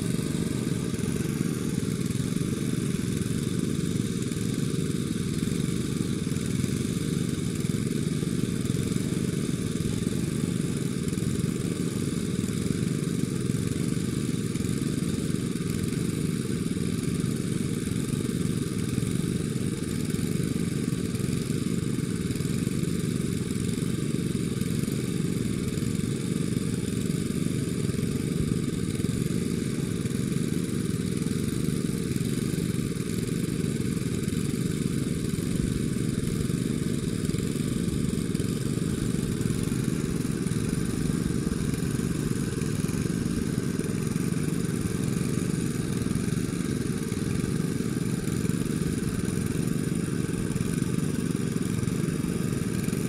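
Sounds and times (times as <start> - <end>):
small engine droning: 0.0 - 53.0.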